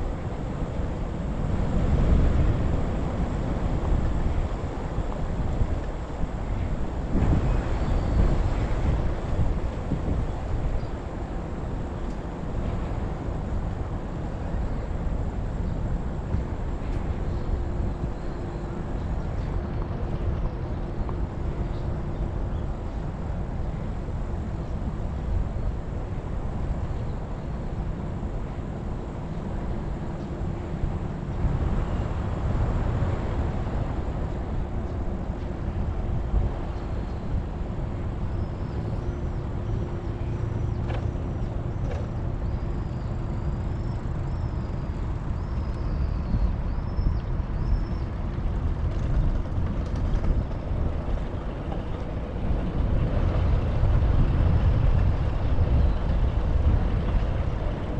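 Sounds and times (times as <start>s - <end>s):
road noise: 0.0s - 57.9s
wind rumble on microphone: 0.0s - 57.9s.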